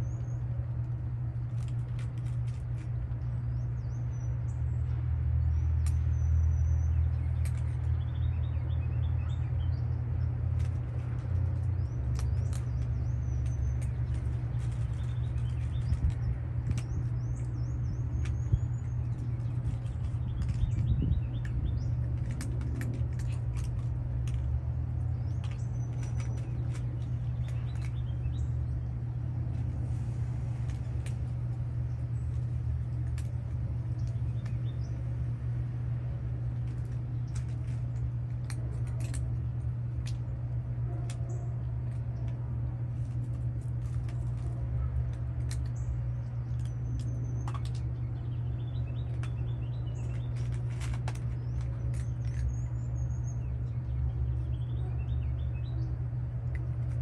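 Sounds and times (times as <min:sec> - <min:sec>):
cats chewing food: 0:00.0 - 0:08.4, 0:09.1 - 0:57.0
low machinery hum: 0:00.0 - 0:57.0.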